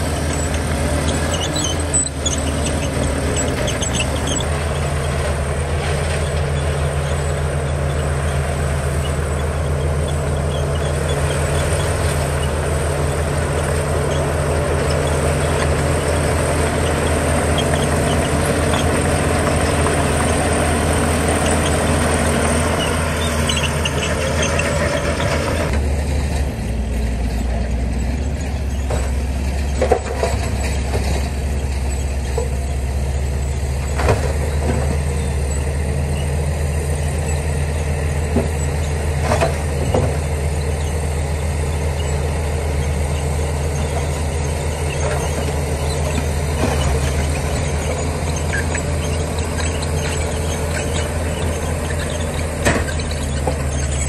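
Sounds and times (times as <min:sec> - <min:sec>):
sharp squeaks or clanks: 0:00.0 - 0:05.2, 0:05.9 - 0:25.7, 0:27.4 - 0:54.0
heavy diesel machinery running: 0:00.0 - 0:54.0.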